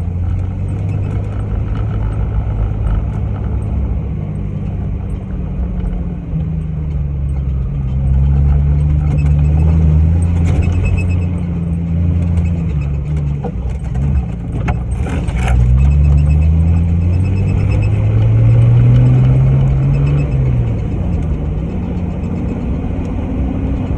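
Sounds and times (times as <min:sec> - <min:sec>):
car engine running: 0:00.0 - 0:23.9
rattles and clicks: 0:00.0 - 0:23.9.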